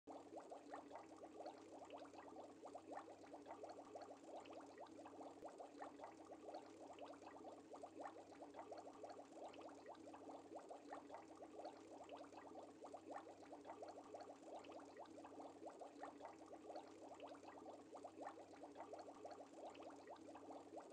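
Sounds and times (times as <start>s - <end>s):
aquarium bubbling: 0.1s - 20.9s.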